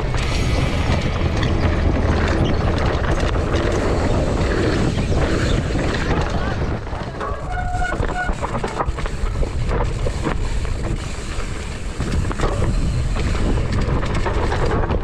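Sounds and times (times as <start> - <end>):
bike rattling over rough ground: 0.0 - 15.0
wind buffeting microphone: 0.0 - 15.0.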